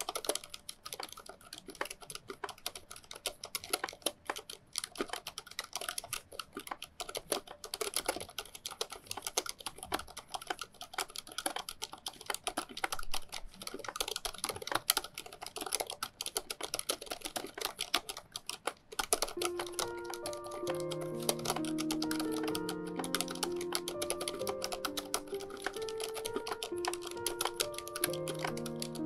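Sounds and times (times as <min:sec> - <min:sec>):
fast typing on mechanical keyboard: 0:00.0 - 0:29.0.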